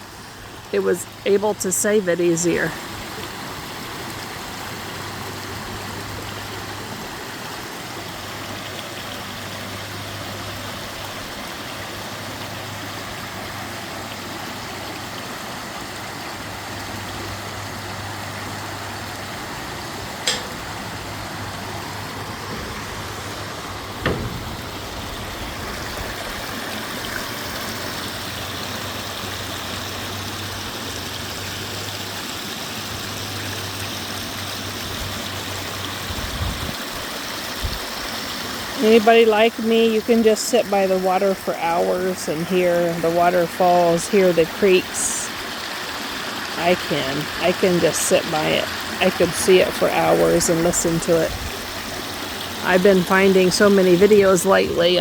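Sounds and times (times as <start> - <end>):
water rushing over waterfall: 0.0 - 55.0.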